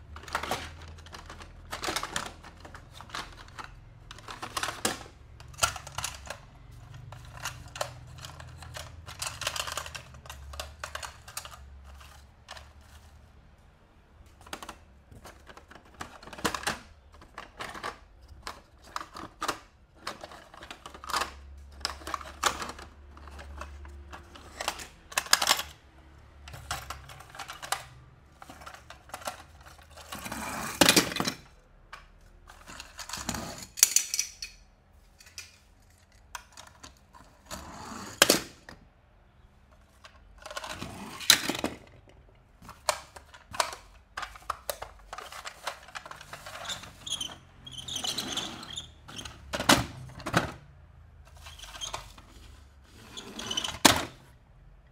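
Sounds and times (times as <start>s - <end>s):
plastic scraping: 0.0s - 13.0s, 14.4s - 31.5s, 39.8s - 54.2s.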